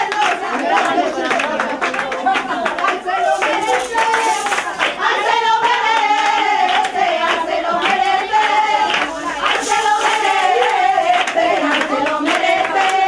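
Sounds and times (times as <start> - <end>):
rhythmic hand clapping: 0.0 - 13.0
voices singing together: 0.0 - 13.0.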